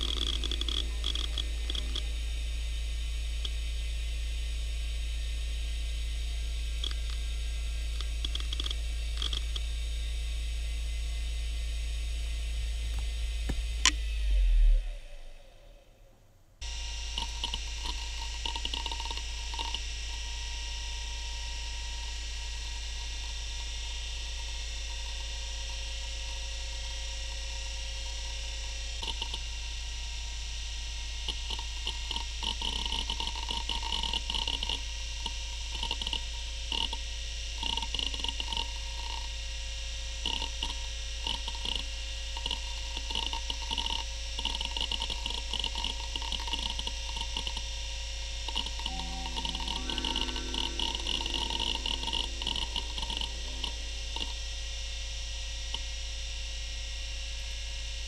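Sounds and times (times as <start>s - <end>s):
hard drive spinning whine: 0.0s - 58.0s.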